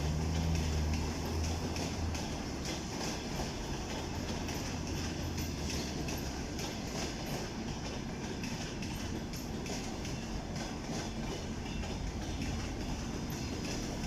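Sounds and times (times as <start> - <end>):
train wheels rumbling on rails: 0.0 - 14.0
wheels clicking over rail joints: 0.0 - 14.0.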